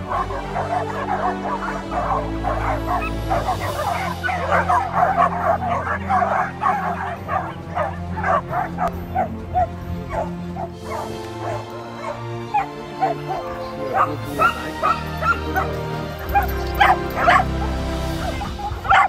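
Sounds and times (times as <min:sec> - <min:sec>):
background music: 0:00.0 - 0:19.0
dogs barking: 0:00.0 - 0:19.0.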